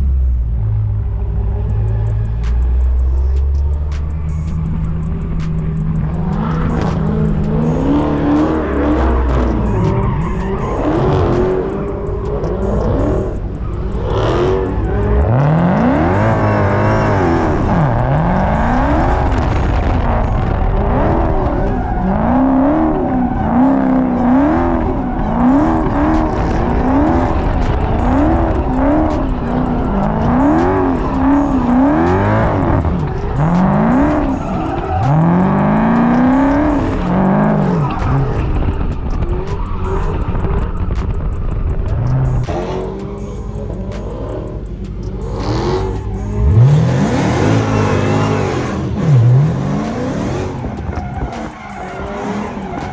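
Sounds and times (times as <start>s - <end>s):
car engine revving: 0.0s - 52.9s
tyres squealing: 1.6s - 52.9s.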